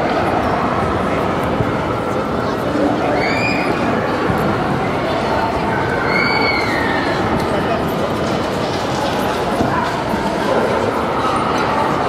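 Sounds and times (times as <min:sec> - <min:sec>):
hubbub of voices: 0:00.0 - 0:12.0.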